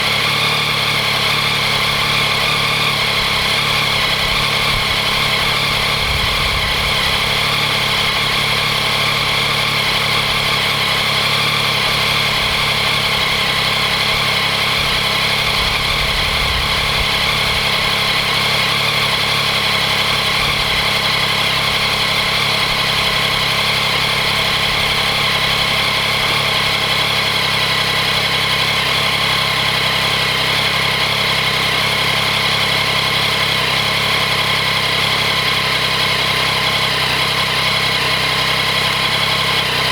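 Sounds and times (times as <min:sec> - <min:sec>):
engine idling: 0:00.0 - 0:39.9
engine rattling ticking noise: 0:00.0 - 0:39.9.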